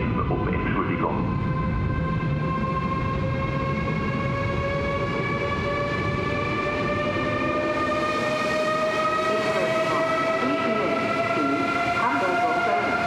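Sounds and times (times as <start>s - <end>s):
train traction whine: 0.0s - 13.0s
wheels rumbling on rails: 0.0s - 13.0s.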